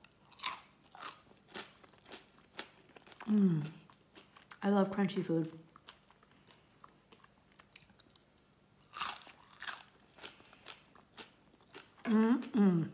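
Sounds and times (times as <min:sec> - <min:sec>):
crunchy food being chewed: 0:00.0 - 0:04.7, 0:05.7 - 0:12.6.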